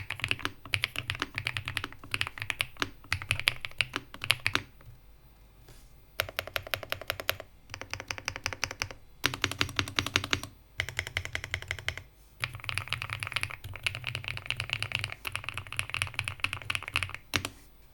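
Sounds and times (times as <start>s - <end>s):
fast mechanical keyboard typing: 0.0s - 4.8s, 6.2s - 17.5s.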